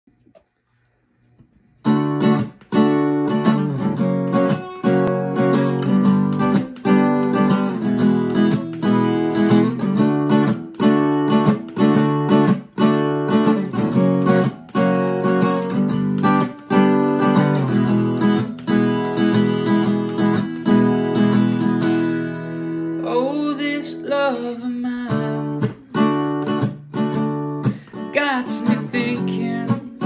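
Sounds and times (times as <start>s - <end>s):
acoustic guitar strumming: 1.8s - 30.0s.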